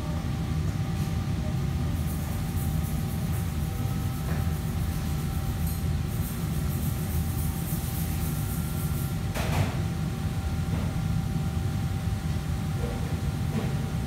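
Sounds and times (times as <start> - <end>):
kitchen fans and machinery rumble: 0.0 - 14.0.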